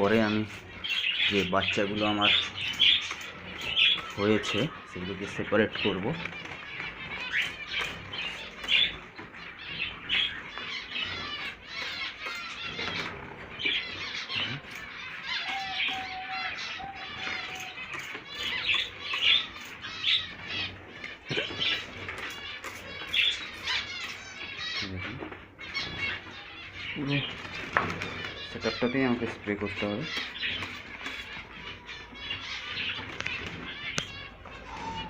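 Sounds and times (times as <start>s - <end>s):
caged birds chirping and squawking: 0.0s - 35.0s.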